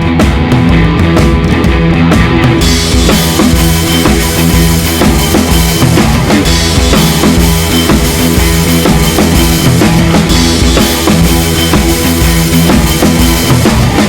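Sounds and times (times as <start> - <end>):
bass drum and snare beat: 0.0 - 14.0
sustained bass notes: 0.0 - 14.0.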